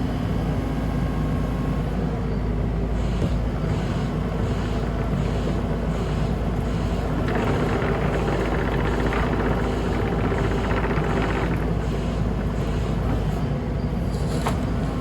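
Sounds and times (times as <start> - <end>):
excavator diesel engine running: 2.0 - 15.0.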